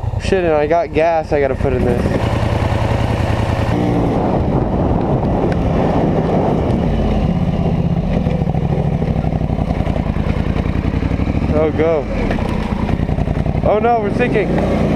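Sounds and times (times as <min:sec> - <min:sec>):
atv engine running: 0:00.0 - 0:14.9.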